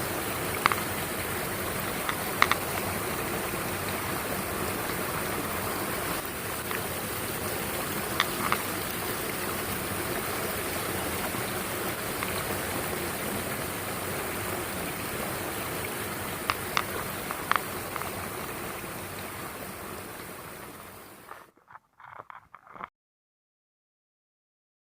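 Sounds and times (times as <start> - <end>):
stream rushing over rocks: 0.0 - 21.5.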